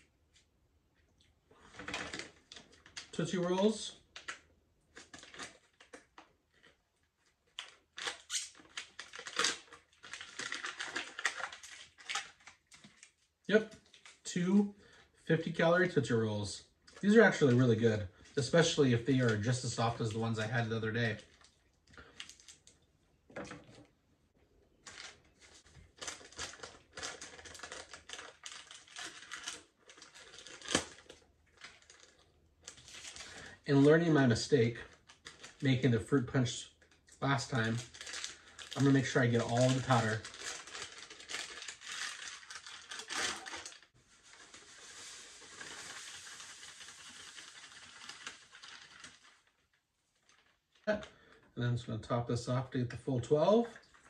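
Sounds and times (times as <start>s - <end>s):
plastic pouch crinkling: 1.6s - 6.8s, 7.4s - 14.2s, 16.8s - 22.8s, 24.8s - 51.4s.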